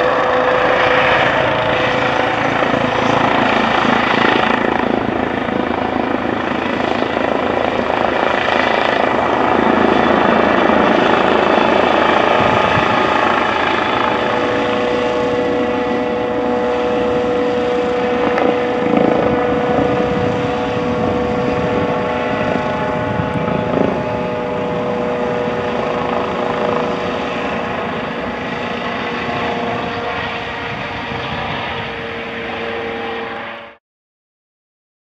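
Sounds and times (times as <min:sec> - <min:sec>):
helicopter rotor and turbine whine: 0:00.0 - 0:33.8.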